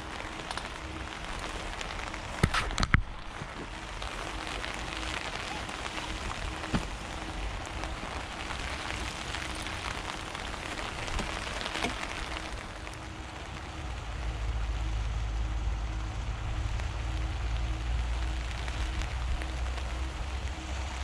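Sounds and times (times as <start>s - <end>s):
water pattering: 0.0s - 21.0s.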